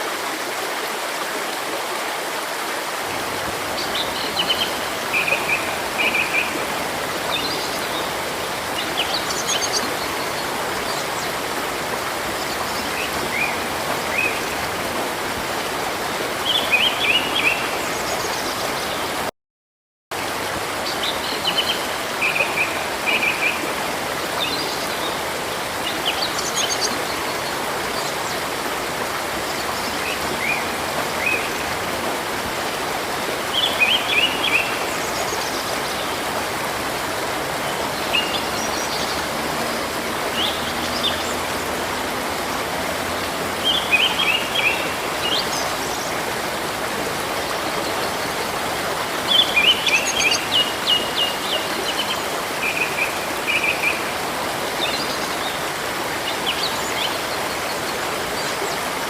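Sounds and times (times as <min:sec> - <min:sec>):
river rushing: 0:00.0 - 0:19.3, 0:20.2 - 0:59.0.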